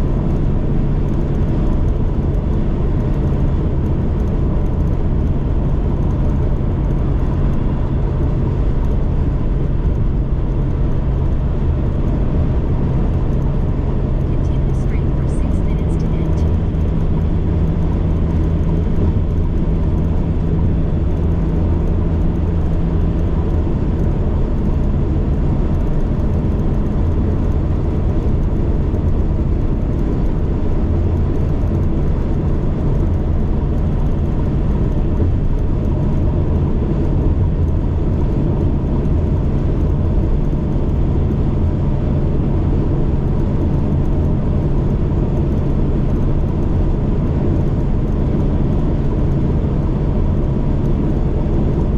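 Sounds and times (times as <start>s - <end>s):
road noise: 0.0s - 51.9s
van engine running: 0.0s - 51.9s.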